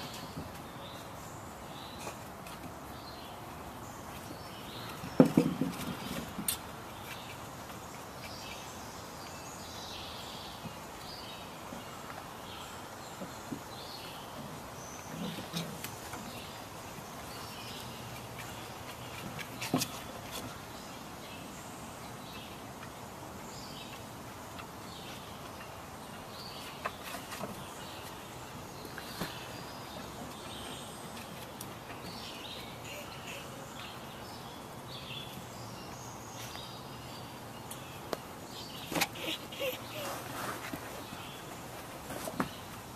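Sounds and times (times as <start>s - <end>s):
outdoor background noise: 0.0s - 42.9s.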